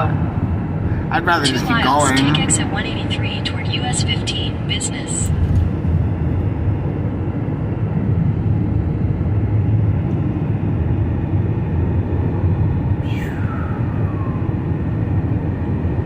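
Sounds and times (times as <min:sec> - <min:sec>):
car interior road noise: 0:00.0 - 0:12.9.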